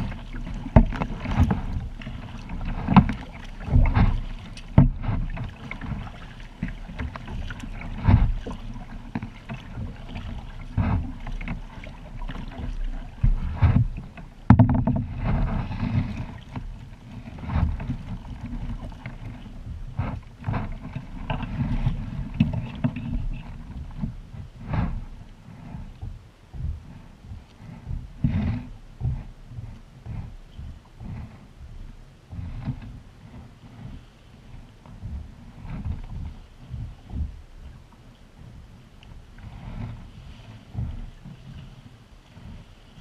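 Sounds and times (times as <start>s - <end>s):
paddle splashes: 0.0s - 43.0s
steady low rumble: 0.0s - 43.0s.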